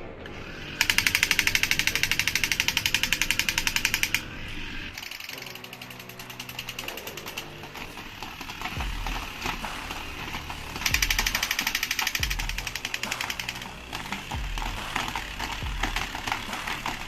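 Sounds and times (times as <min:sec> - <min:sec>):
toy clicking and rattling: 0:00.8 - 0:04.3, 0:04.9 - 0:17.0.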